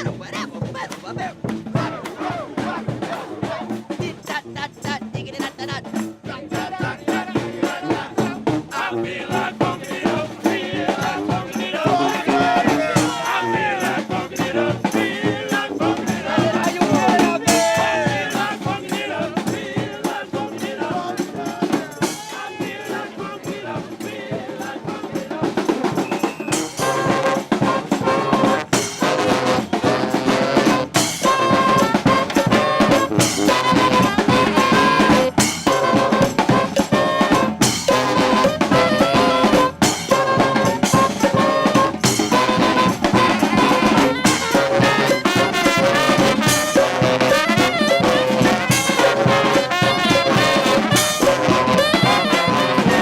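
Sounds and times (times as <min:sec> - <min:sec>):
brass band playing: 0:00.0 - 0:53.0
drums and percussion: 0:00.0 - 0:53.0
horns holding notes: 0:00.0 - 0:53.0.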